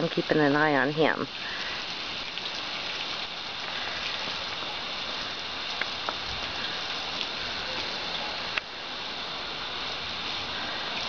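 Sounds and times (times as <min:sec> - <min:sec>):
water spray pattering on grass: 0:00.0 - 0:11.0.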